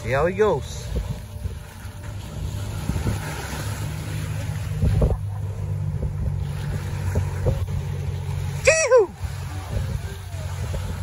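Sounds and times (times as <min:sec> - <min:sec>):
low motor hum: 0:00.0 - 0:11.0
waves washing up sand: 0:00.0 - 0:11.0
wind on microphone: 0:00.0 - 0:11.0.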